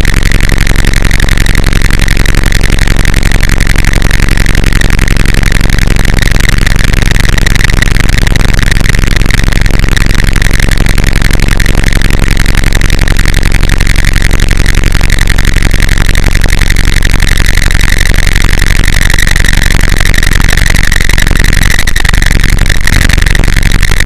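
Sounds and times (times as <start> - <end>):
harsh distorted noise music: 0.0 - 24.0.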